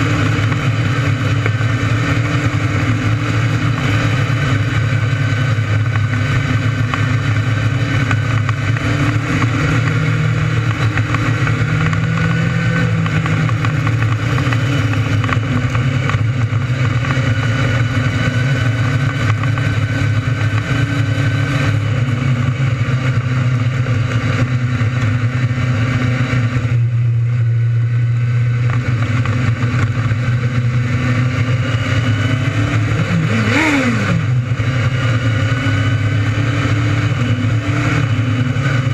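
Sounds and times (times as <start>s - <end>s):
racing engine running hard: 0.0s - 38.9s.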